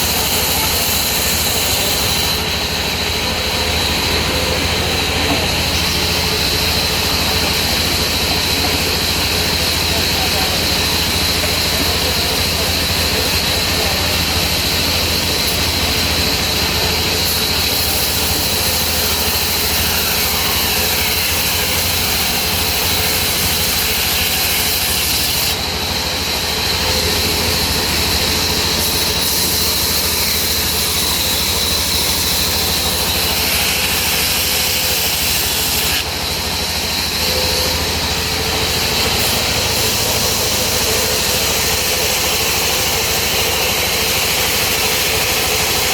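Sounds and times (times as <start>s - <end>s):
sawmill saw whining: 0.0s - 45.9s.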